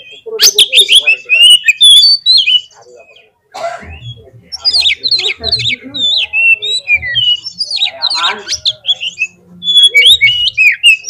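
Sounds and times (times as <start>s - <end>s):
bird singing whistled notes: 0.0s - 3.3s, 4.0s - 11.0s.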